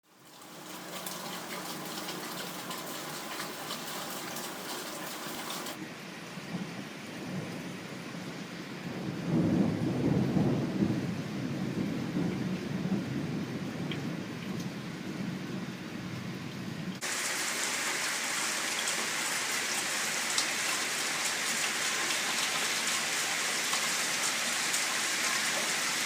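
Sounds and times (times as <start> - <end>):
heavy rain falling: 0.0 - 5.8, 8.9 - 26.0.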